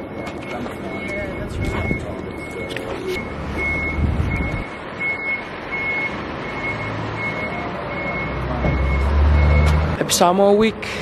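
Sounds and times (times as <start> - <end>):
reversing alarm beeping: 0.0 - 10.0.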